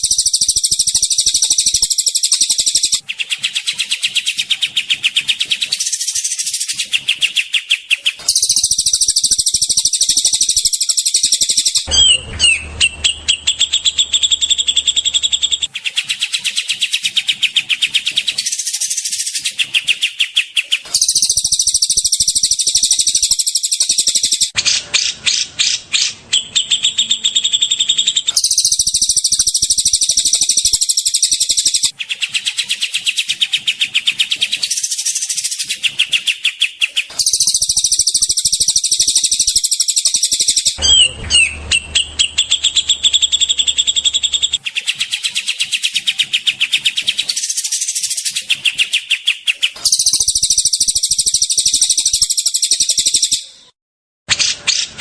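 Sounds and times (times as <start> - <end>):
clicking bird chatter: 0.0 - 53.5
songbird chattering trills: 0.0 - 53.6
sliding whistled bird phrase: 0.0 - 53.8.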